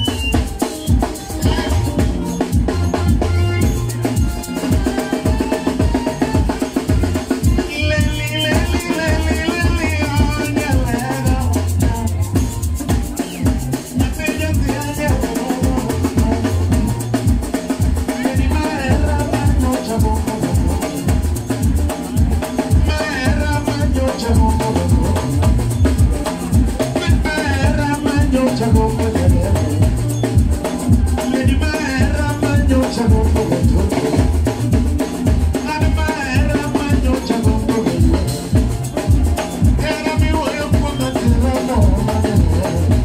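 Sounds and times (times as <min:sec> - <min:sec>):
driving drum beat: 0:00.0 - 0:43.0.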